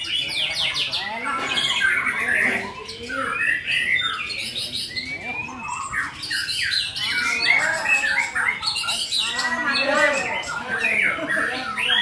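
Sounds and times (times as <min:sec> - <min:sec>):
bird singing whistled notes: 0:00.0 - 0:12.0.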